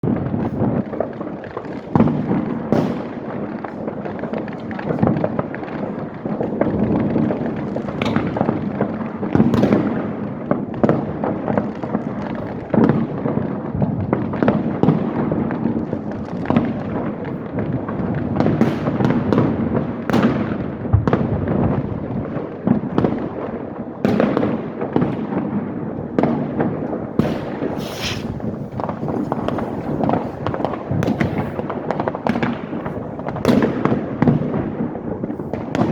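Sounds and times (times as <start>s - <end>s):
fireworks and firecrackers bangs: 0.0s - 35.9s.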